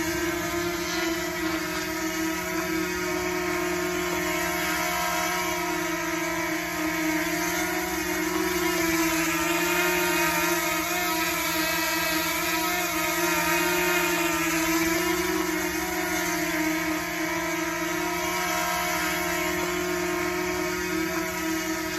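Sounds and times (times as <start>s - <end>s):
drone propellers whining: 0.0s - 21.9s.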